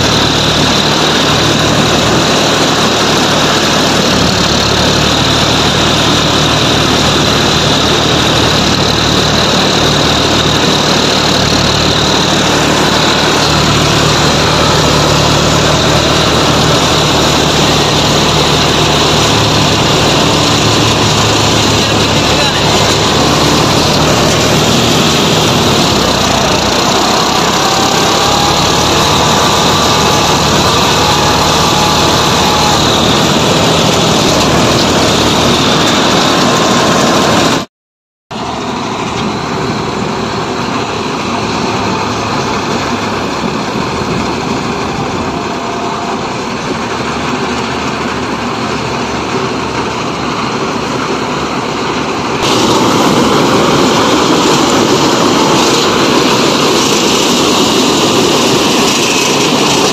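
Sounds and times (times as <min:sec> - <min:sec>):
combine harvester running: 0:00.0 - 0:37.7, 0:38.3 - 0:59.9.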